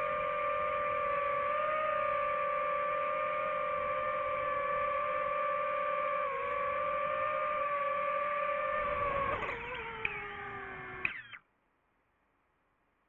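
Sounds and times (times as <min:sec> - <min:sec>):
drone propellers whining: 0:00.0 - 0:11.4.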